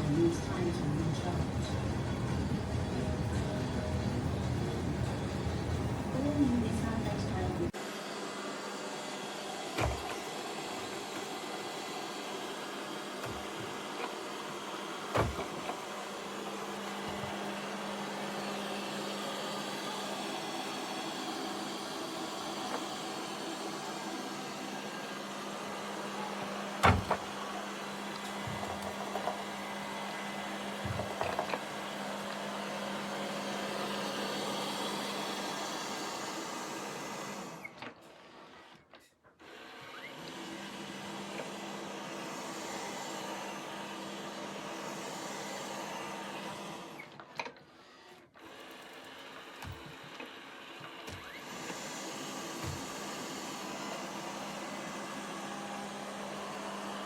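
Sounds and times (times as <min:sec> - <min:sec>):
robot vacuum humming: 0:00.0 - 0:38.8, 0:39.4 - 0:47.2, 0:48.0 - 0:57.0.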